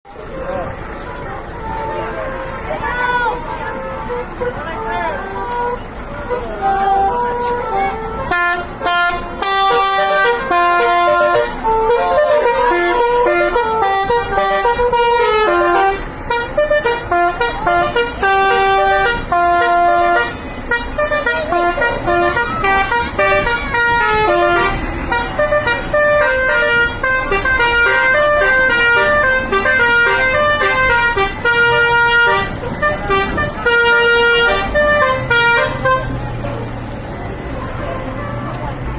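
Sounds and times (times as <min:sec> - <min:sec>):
bus air horns playing a melody: 0:01.6 - 0:36.4.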